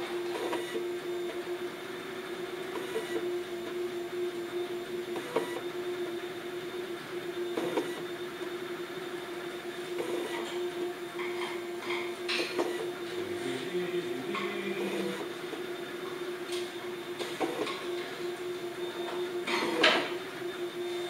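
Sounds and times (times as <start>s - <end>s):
stepper motor whine: 0.0s - 21.0s.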